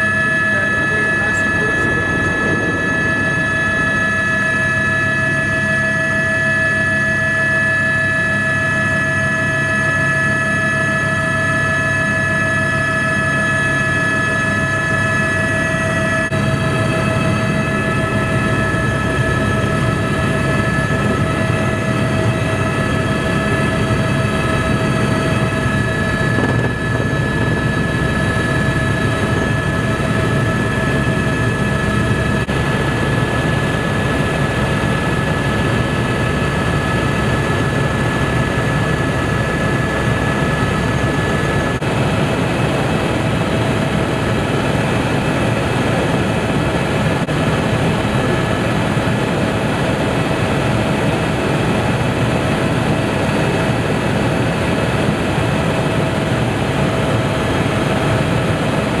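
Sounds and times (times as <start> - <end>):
helicopter rotor and engine rumble: 0.0 - 59.0
high turbine whine: 0.0 - 59.0.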